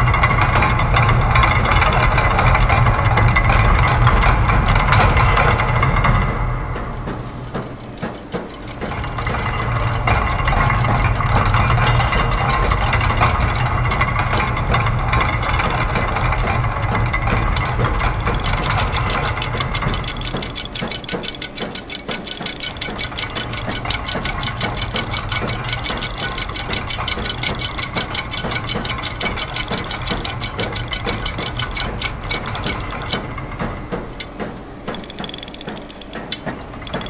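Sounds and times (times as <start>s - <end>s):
rapid mechanical clicking: 0.0s - 37.0s
steady low machine hum: 0.0s - 37.0s.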